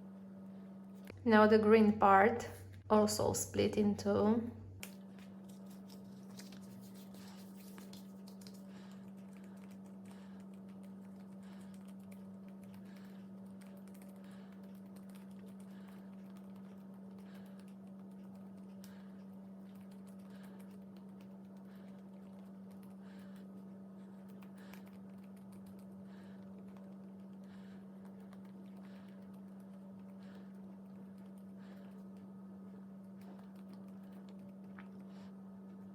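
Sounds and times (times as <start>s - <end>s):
low hum: 0.0s - 35.9s.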